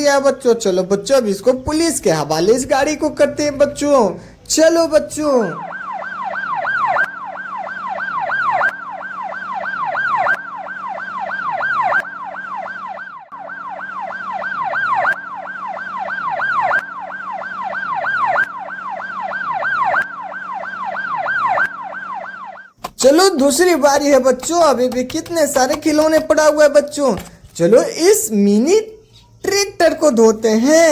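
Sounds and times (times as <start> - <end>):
electronic police siren yelping: 0.0 - 28.3.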